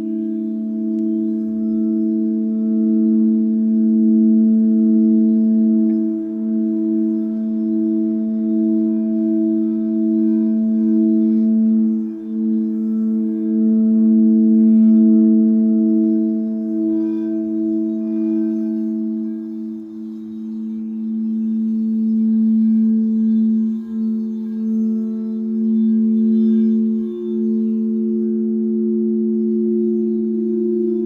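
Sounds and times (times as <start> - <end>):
singing bowls droning: 0.0 - 31.0.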